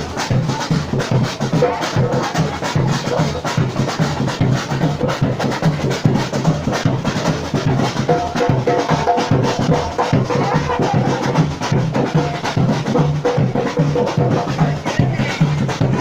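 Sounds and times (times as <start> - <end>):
deep bass drum beats: 0.0 - 16.0
fast drum strikes: 0.0 - 16.0.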